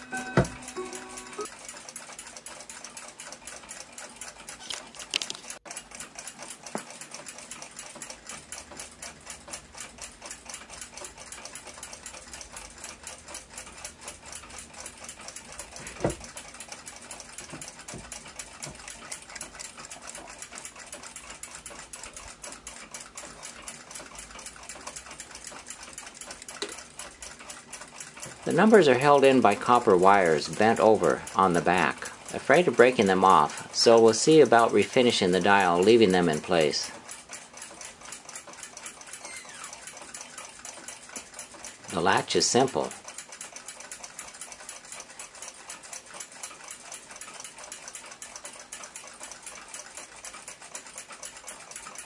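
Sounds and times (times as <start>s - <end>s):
clock ticking: 0.0s - 5.0s, 5.8s - 52.0s.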